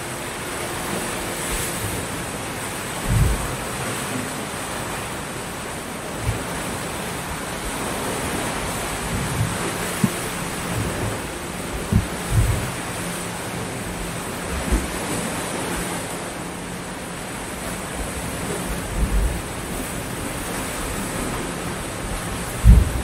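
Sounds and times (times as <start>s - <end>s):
low thumps of waves: 0.0s - 23.0s
waves breaking on beach: 0.0s - 23.0s.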